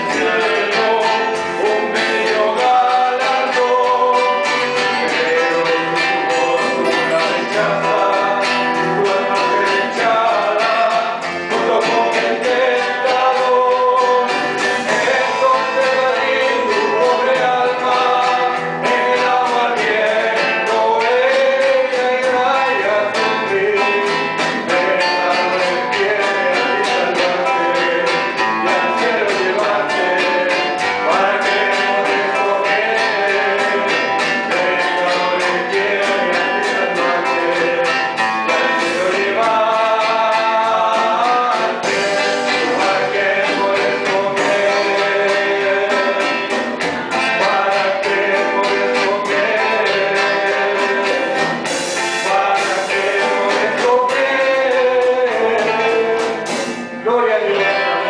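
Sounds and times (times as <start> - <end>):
man singing: 0.0 - 58.0
strummed acoustic guitar: 0.0 - 58.0.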